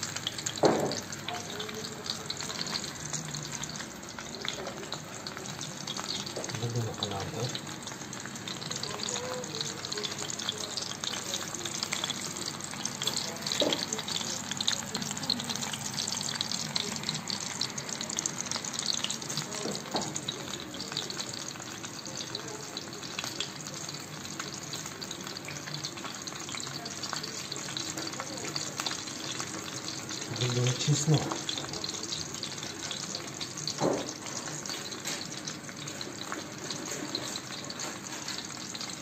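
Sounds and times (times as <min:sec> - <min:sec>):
food sizzling in hot fat: 0:00.0 - 0:39.0.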